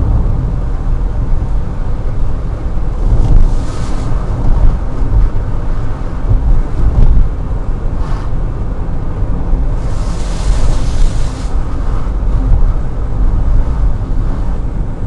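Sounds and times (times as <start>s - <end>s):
loud low rumble: 0.0s - 15.0s.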